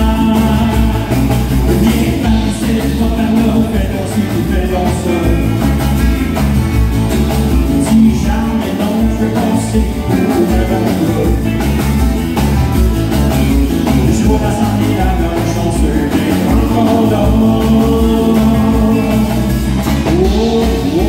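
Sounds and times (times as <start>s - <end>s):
man singing: 0.0s - 6.1s, 7.6s - 11.8s, 13.6s - 21.0s
bass and drums: 0.0s - 21.0s
electric guitars: 0.0s - 21.0s
strummed acoustic guitar: 0.0s - 21.0s.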